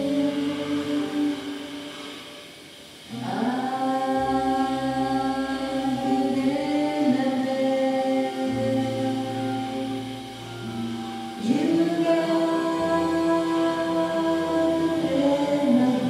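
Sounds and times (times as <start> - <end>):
voices chanting in held notes: 0.0 - 10.4, 11.4 - 16.0.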